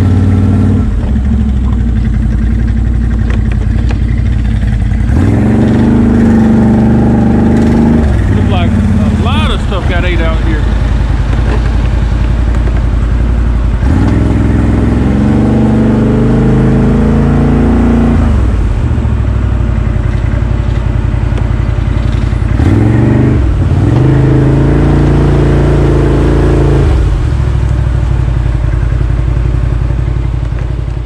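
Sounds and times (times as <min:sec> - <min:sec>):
quad bike engine revving: 0:00.0 - 0:27.7
driving through muddy water: 0:00.0 - 0:31.0.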